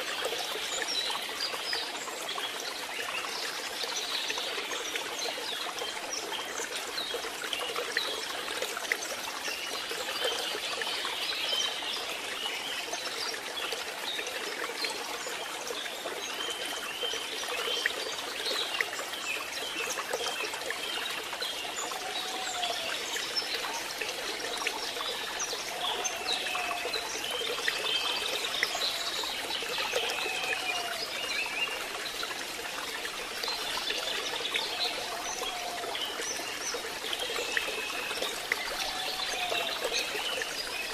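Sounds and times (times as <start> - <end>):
rain falling and trickling: 0.0 - 40.9.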